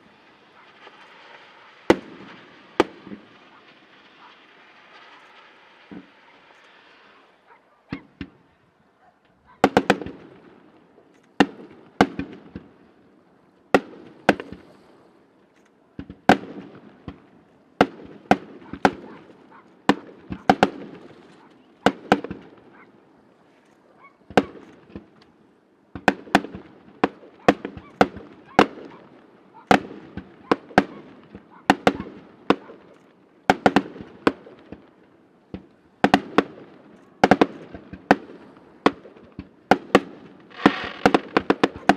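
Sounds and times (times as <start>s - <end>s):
fireworks bursting with sharp bangs: 0.0s - 41.9s.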